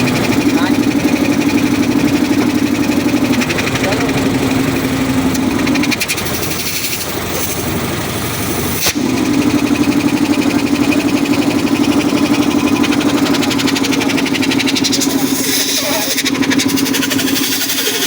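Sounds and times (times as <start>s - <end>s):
air compressor pulsing: 0.0s - 18.0s.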